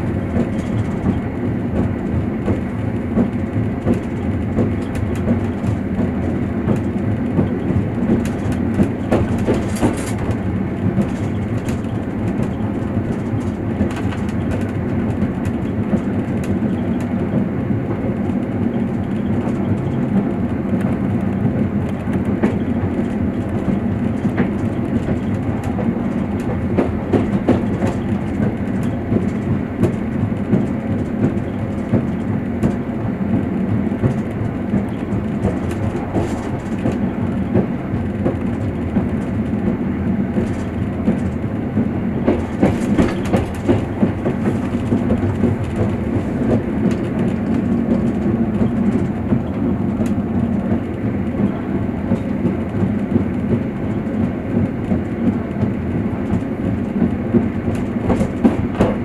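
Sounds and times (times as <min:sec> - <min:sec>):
train rumbling: 0:00.0 - 0:59.0
wheels clacking over rails: 0:00.0 - 0:59.0.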